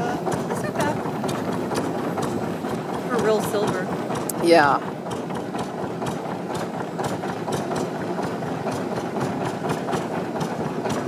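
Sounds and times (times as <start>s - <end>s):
boat motor clattering: 0.0s - 11.0s.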